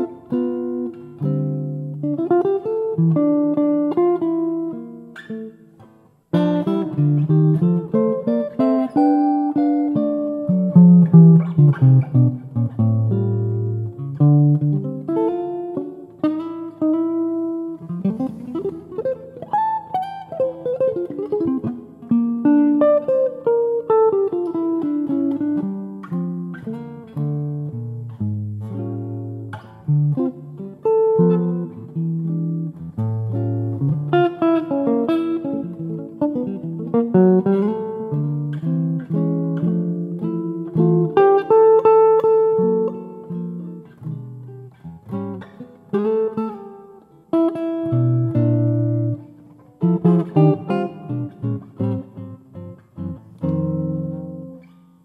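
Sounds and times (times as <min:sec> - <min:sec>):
solo jazz guitar: 0:00.0 - 0:55.0.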